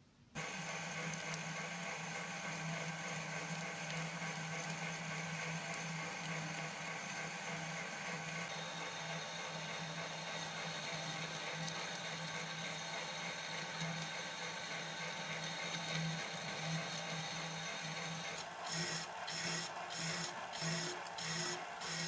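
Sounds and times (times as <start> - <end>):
lathe motor humming: 0.4 - 22.0.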